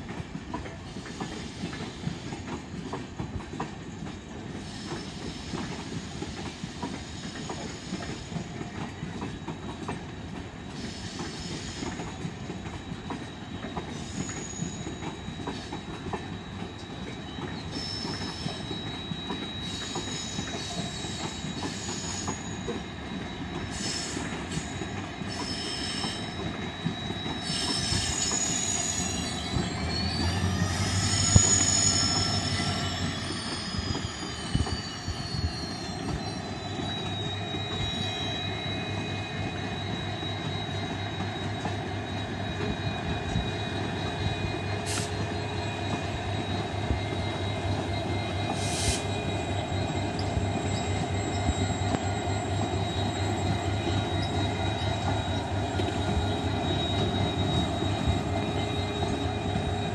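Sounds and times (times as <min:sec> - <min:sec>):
rumble of wheels on track: 0:00.0 - 0:59.9
train wheels squealing: 0:00.0 - 0:59.9.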